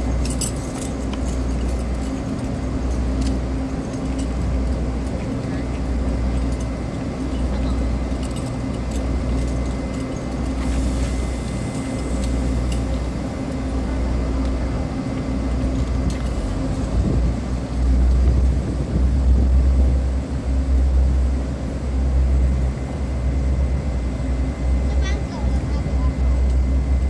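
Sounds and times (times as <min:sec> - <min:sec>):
faint steady whines: 0:00.0 - 0:27.0
train low rumble: 0:00.0 - 0:27.0.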